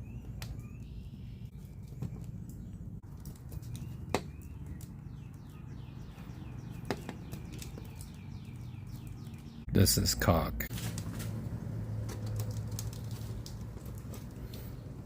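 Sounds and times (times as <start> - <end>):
faint birdsong: 0.0 - 10.7, 11.4 - 15.0.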